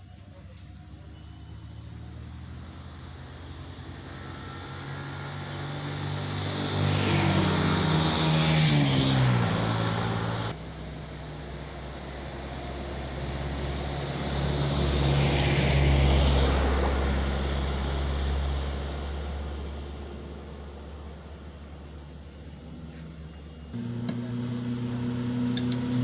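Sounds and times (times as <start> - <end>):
vehicle engine passing: 1.3 - 26.0.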